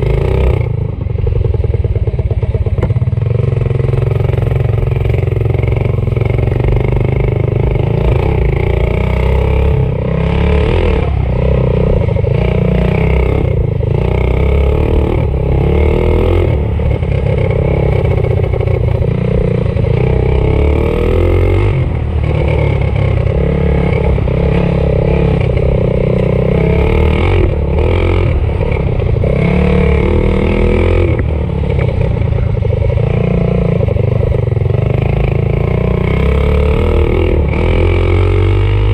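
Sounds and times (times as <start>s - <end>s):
minibike engine revving: 0.0s - 38.9s.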